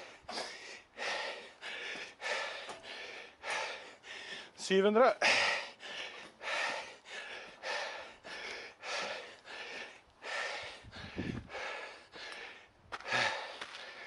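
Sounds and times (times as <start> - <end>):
man breathing hard: 0.0 - 4.6, 5.2 - 14.0.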